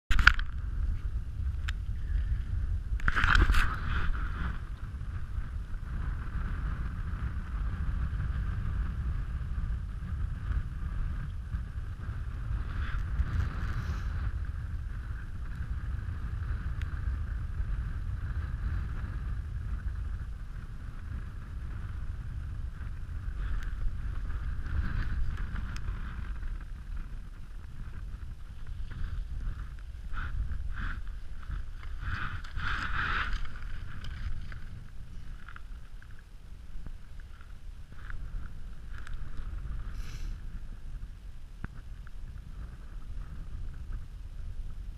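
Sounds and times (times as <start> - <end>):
wind blowing over microphone: 0.1 - 44.9.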